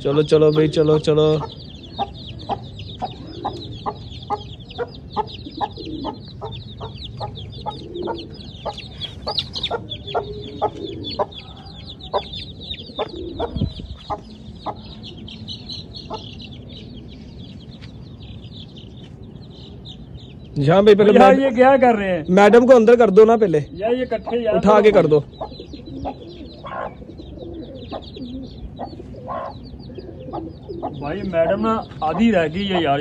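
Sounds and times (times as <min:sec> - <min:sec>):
hen clucking: 0:00.0 - 0:17.3, 0:23.8 - 0:33.0
chicks peeping: 0:00.0 - 0:33.0.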